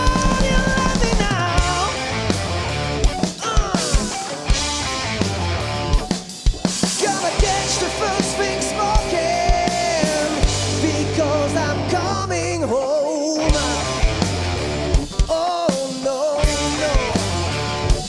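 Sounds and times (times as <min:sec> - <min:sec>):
sliding lead guitar line: 0:00.0 - 0:15.3, 0:16.4 - 0:18.0
live rock band playing: 0:00.0 - 0:18.0.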